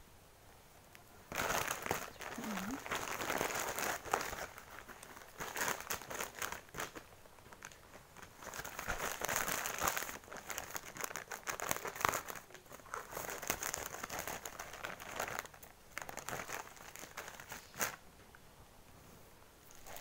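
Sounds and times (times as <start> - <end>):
plastic bag crackle: 1.3 - 18.0, 19.7 - 20.0
plastic bag crinkling: 1.3 - 18.0, 19.7 - 20.0.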